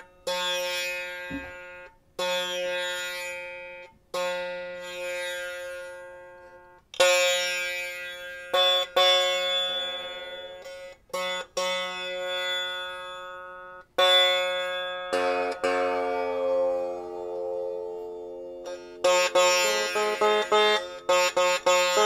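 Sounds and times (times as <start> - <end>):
plucked stringed instrument: 0.0 - 22.0.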